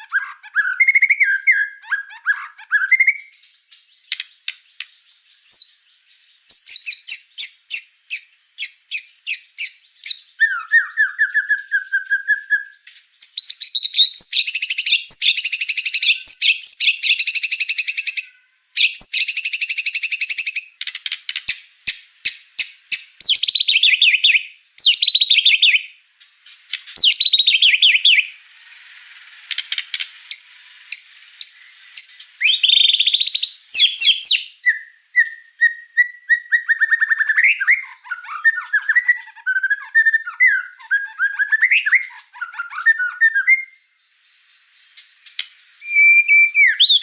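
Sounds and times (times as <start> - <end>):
songbird singing whistled phrases: 0.0 - 47.0.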